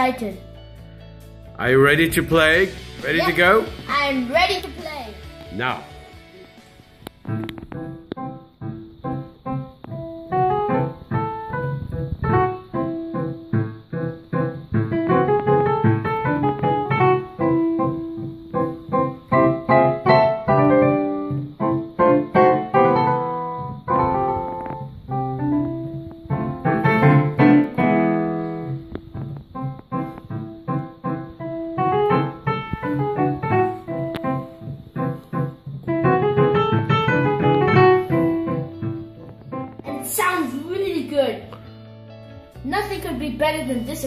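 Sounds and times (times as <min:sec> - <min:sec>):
digital piano playing: 0:00.0 - 0:44.0.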